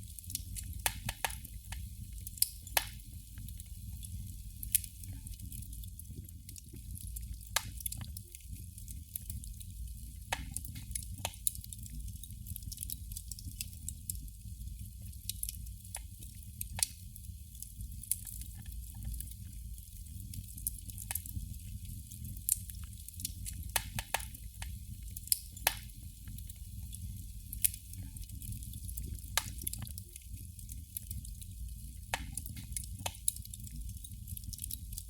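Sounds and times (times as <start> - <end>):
candle flame crackling: 0.0 - 35.0.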